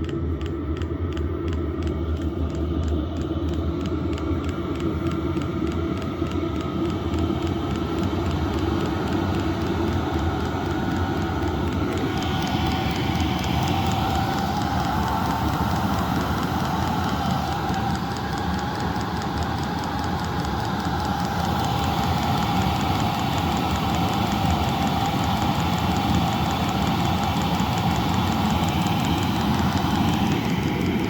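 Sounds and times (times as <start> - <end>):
constant whine: 0.0 - 31.0
fuel pump ticking: 0.0 - 31.0
heater burner and fan rumble: 0.0 - 31.0.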